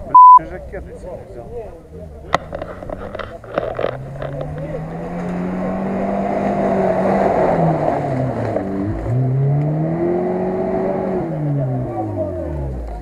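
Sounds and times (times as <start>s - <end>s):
off-road engine revving: 2.0s - 13.0s.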